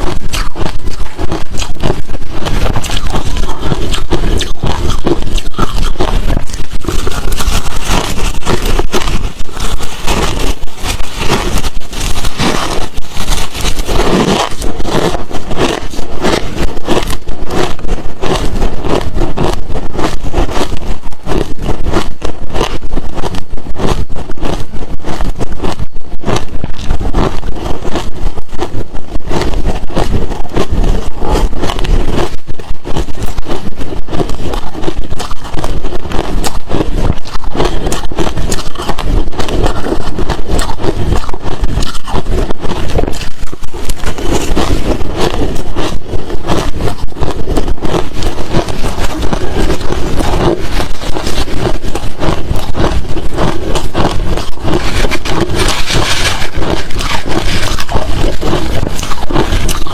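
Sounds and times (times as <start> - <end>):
chewing crunchy ice: 0.0 - 59.9.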